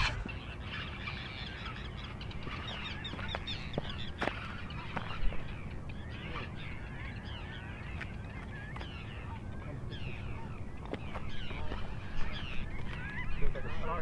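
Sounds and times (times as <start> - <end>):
birds chirping: 0.0 - 14.0
wind rumble on microphone: 0.0 - 14.0.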